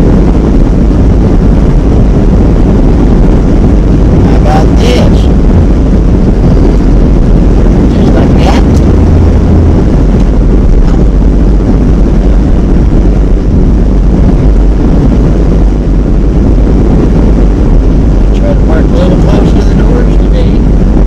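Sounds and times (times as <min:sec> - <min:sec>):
van engine and road rumble: 0:00.0 - 0:21.0.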